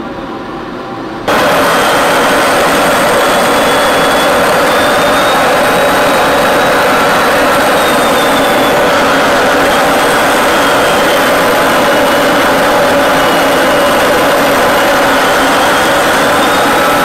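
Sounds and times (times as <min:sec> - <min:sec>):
faint high whines: 0:00.0 - 0:17.0
jet engine and airflow noise: 0:00.0 - 0:17.0.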